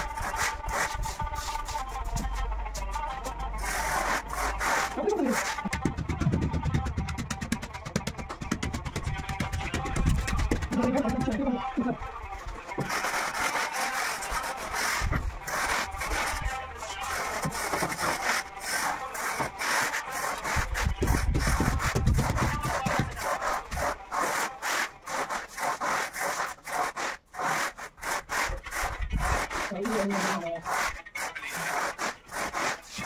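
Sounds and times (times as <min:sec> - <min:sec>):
hand tool scraping cement floor: 0:00.0 - 0:33.0.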